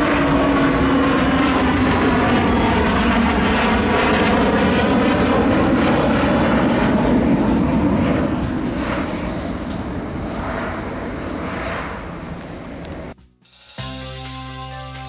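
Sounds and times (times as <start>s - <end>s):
fighter jet engines roaring: 0.0s - 13.2s.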